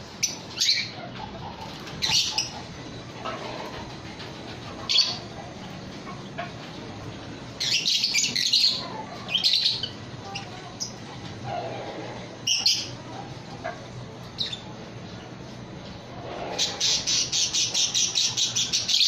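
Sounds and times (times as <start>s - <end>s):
birds chirping and squawking: 0.0s - 19.0s.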